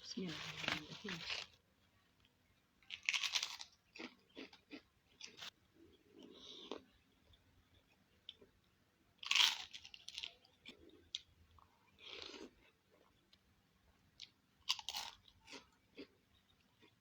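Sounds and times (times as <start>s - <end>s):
chewing and crunching food: 0.1s - 17.0s.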